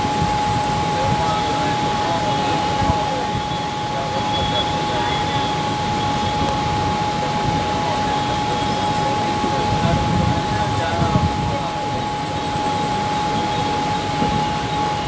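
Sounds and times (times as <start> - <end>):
electric train rumble and rattle: 0.0 - 15.0
thin high whine: 0.0 - 15.0.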